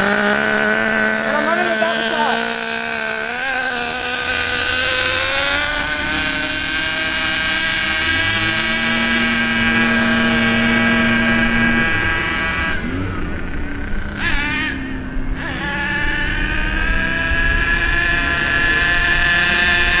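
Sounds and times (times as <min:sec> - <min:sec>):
rc truck engine buzzing whine: 0:00.0 - 0:20.0.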